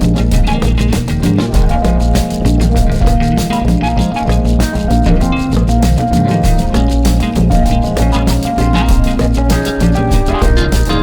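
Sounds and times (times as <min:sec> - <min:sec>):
percussive latin music: 0:00.0 - 0:11.0.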